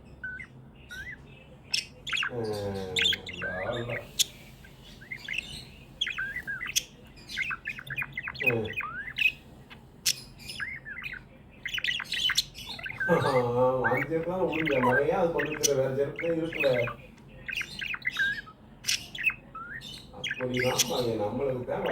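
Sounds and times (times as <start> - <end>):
budgerigars chirping: 0.0 - 21.9.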